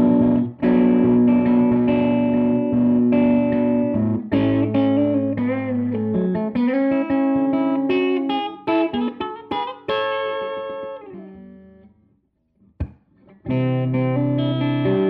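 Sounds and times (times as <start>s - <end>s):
electric guitar playing: 0.0s - 11.9s, 12.8s - 15.0s.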